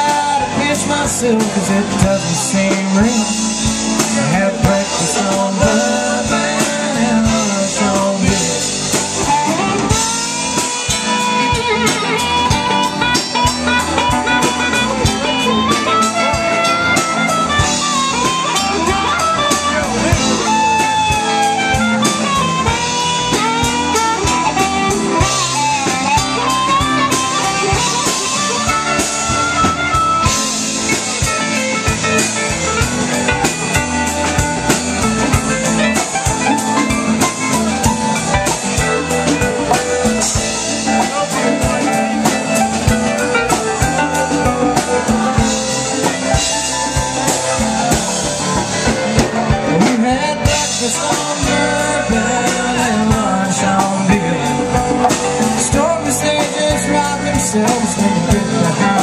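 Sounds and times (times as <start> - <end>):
bending lead guitar melody: 0.0 - 59.0
live rock band playing: 0.0 - 59.0.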